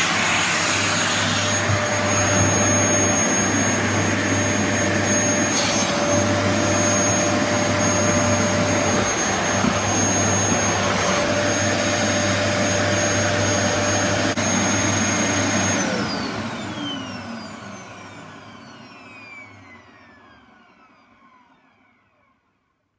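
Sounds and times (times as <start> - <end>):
vacuum cleaner motor whining: 0.0 - 22.4.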